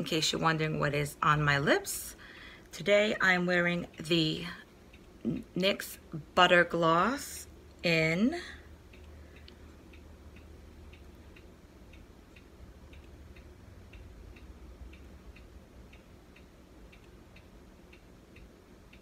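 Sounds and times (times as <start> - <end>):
low hum: 0.0 - 19.0
clock ticking: 2.8 - 19.0.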